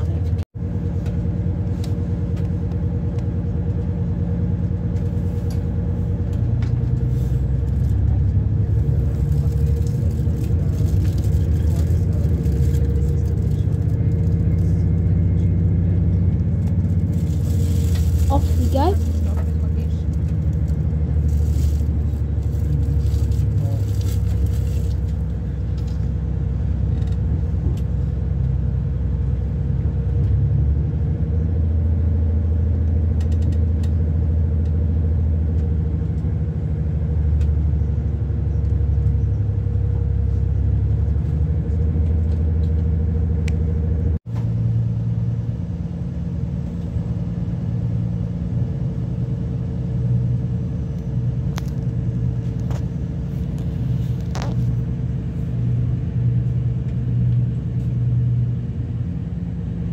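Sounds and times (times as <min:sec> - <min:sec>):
train engine rumble and hum: 0:00.0 - 0:59.9.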